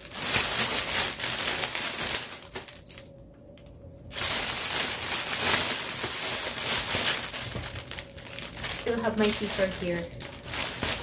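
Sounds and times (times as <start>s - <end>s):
cellophane wrap crinkling: 0.0s - 11.0s.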